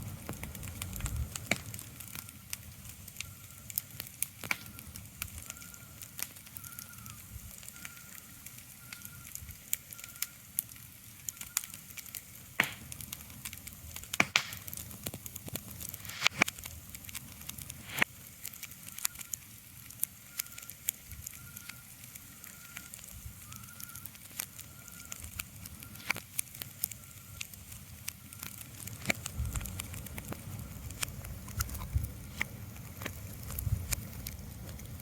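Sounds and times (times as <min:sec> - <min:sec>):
sharp crackles and clicks: 0:00.0 - 0:35.0.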